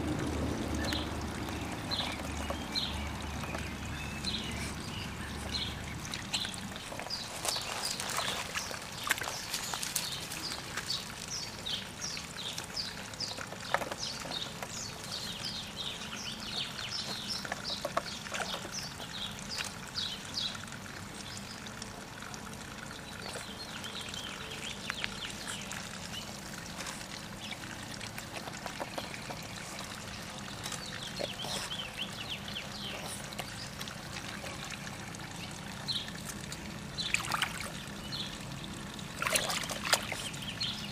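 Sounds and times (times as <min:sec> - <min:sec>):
dog snapping and slurping water: 0:00.0 - 0:21.4, 0:23.2 - 0:38.2, 0:39.1 - 0:40.9
small water splashes: 0:00.0 - 0:40.9
trickling pond water: 0:00.0 - 0:40.9.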